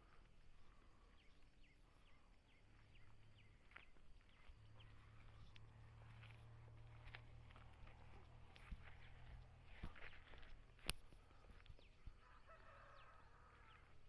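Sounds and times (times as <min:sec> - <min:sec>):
faint bird chirps: 0:00.0 - 0:07.0, 0:07.8 - 0:14.0
faint low hum: 0:00.0 - 0:14.0.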